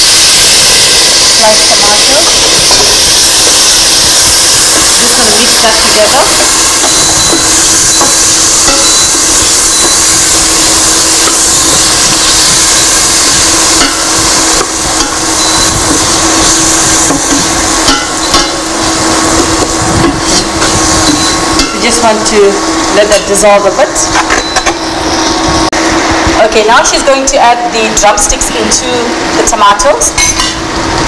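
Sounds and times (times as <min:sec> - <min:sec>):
food sizzling in hot oil: 0:00.0 - 0:26.0
steady low hum: 0:00.0 - 0:29.6.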